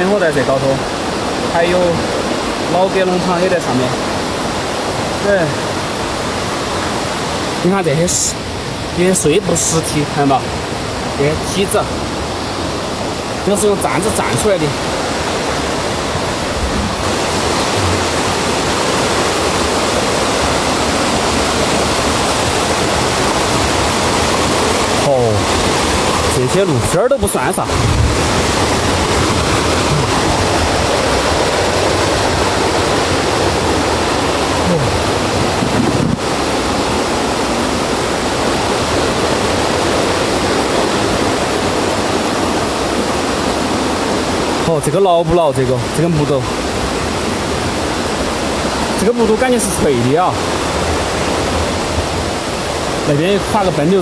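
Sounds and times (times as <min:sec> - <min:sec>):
fast-flowing water rushing: 0:00.0 - 0:54.0.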